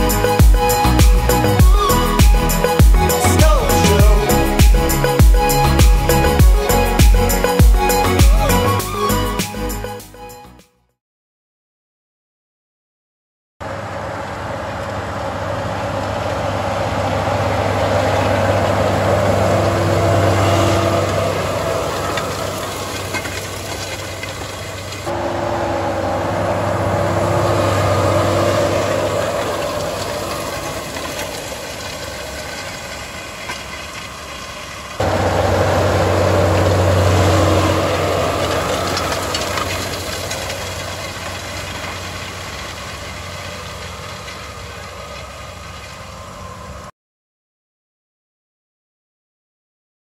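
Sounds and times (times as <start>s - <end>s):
tractor diesel engine under load: 0.0s - 10.0s, 13.6s - 46.9s.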